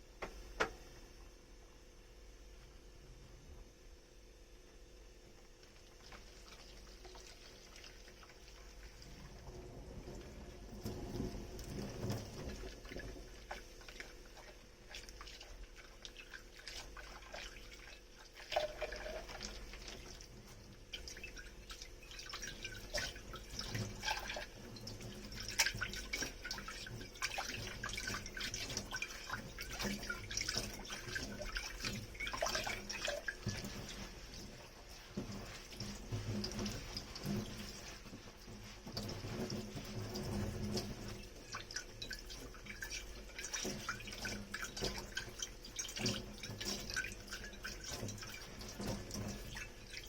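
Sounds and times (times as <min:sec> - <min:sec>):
water dripping and trickling: 0:05.4 - 0:50.0.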